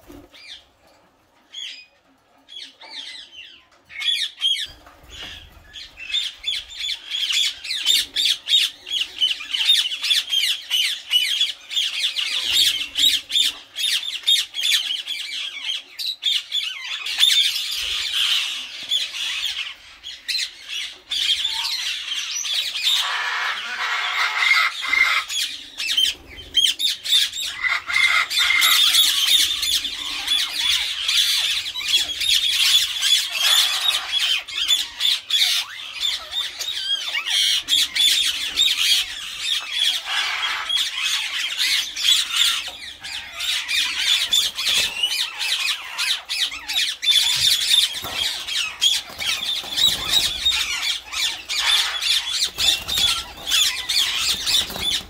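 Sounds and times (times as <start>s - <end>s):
parakeets squawking: 2.5s - 55.0s.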